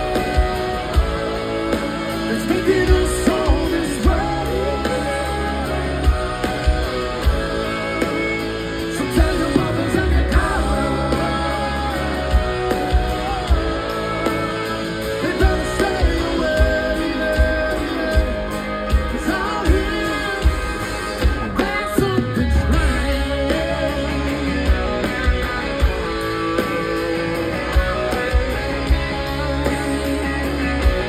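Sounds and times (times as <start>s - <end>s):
bass: 0.0s - 31.0s
electric guitar lines: 0.0s - 31.0s
steady drum beat: 0.0s - 31.0s.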